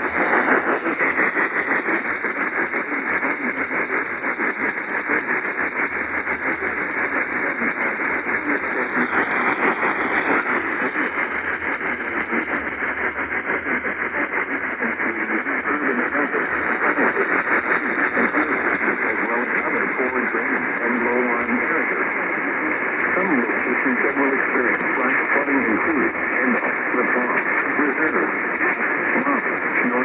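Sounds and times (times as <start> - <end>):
radio static hiss and crackle: 0.0 - 30.0.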